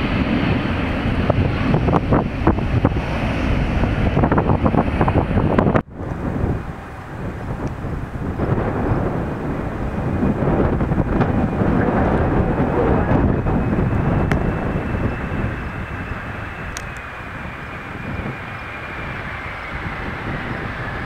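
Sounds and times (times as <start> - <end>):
high whine: 0.0 - 21.0
jet engines rumbling: 0.0 - 21.0.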